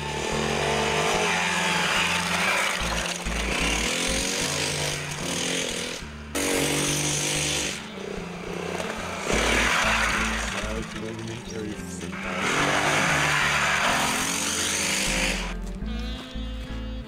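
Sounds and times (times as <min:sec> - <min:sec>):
dirt bike engine revving: 0:00.0 - 0:17.0
music: 0:00.0 - 0:17.0.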